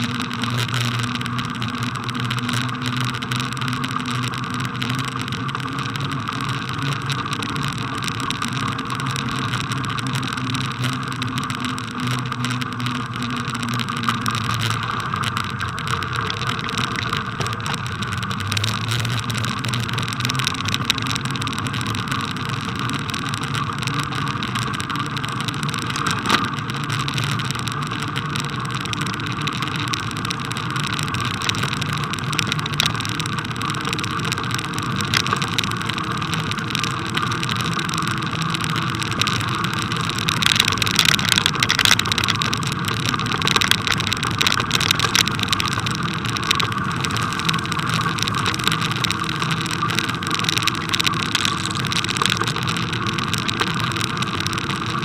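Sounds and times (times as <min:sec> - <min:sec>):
bicycle tyres rolling over snow: 0:00.0 - 0:55.0.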